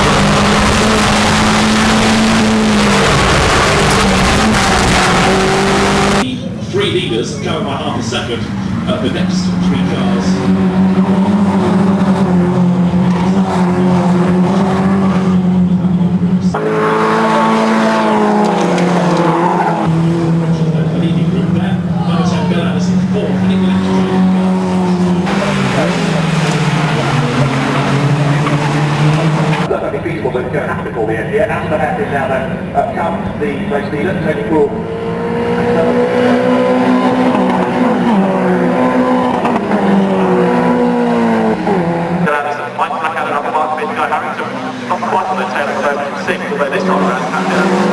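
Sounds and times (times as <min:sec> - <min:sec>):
racing car engines at high revs: 0:00.0 - 0:06.6, 0:07.4 - 0:29.7, 0:30.4 - 0:47.9.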